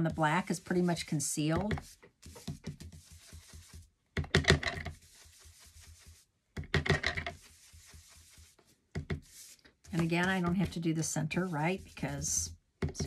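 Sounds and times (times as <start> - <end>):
faint brushing: 0.0 - 3.9, 4.8 - 6.3, 7.1 - 12.6
brush tapping and scratching on card: 0.0 - 13.0.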